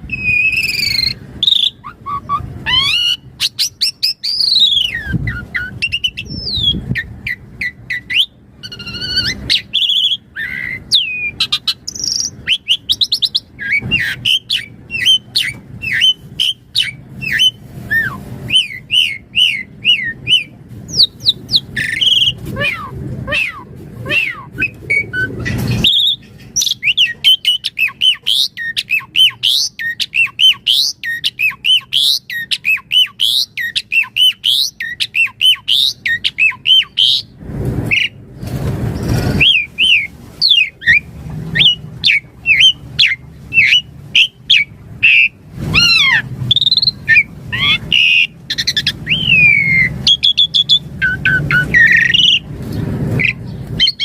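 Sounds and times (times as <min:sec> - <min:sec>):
harsh noisy bird calls: 0:00.0 - 0:54.0
starling singing whistled notes: 0:00.1 - 0:38.2, 0:39.0 - 0:52.5, 0:53.2 - 0:54.0.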